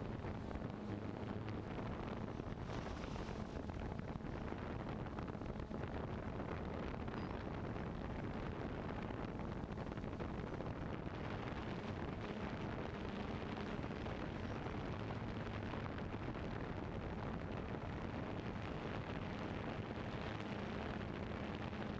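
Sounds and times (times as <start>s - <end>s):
wind on microphone: 0.0s - 21.9s.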